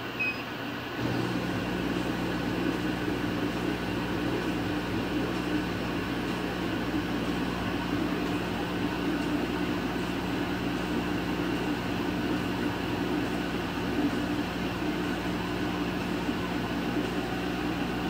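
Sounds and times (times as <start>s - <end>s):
laser cutter humming: 0.9s - 18.0s.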